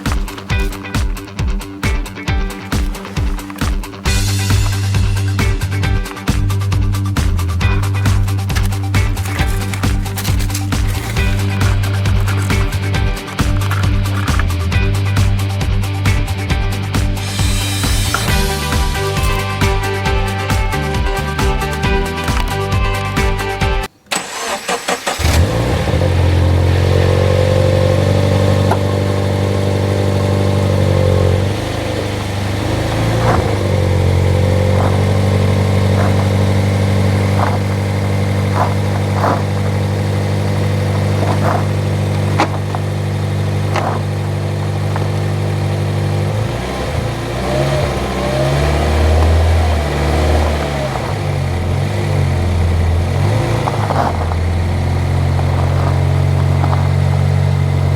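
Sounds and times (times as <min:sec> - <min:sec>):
car engine starting and idling: 0:00.0 - 0:57.9.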